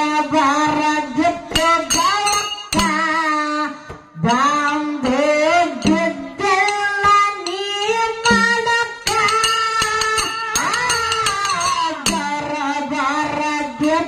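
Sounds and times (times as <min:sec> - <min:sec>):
girl singing through a microphone: 0:00.0 - 0:14.0.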